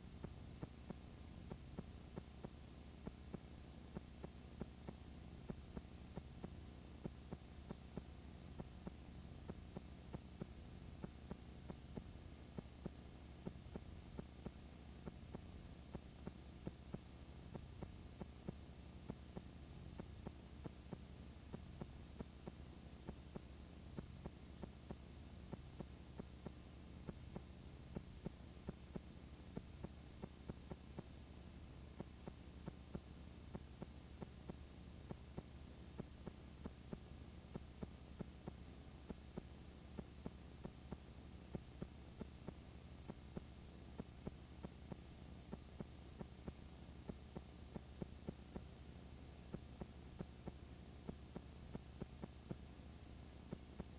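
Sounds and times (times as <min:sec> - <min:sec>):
faint electrical hum: 0:00.0 - 0:53.9.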